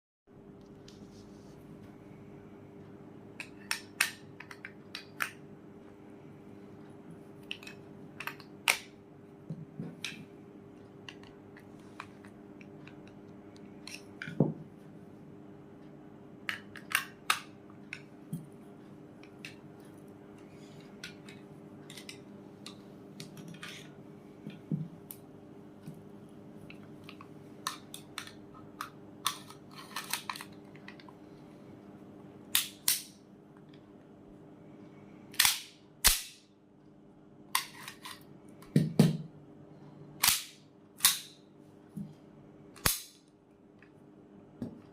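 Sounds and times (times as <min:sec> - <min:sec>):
faint steady hum: 0:00.3 - 0:44.9.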